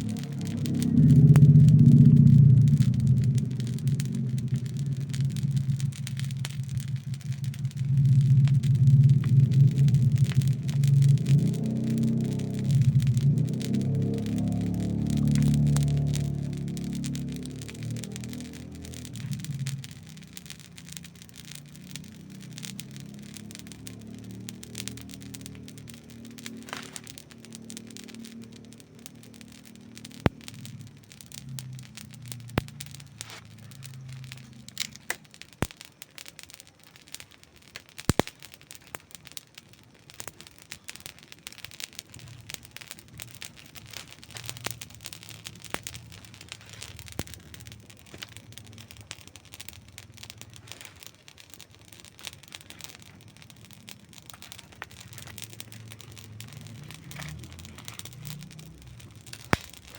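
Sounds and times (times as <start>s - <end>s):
campfire crackling: 0.0s - 59.9s
loud fire pops: 0.0s - 59.9s.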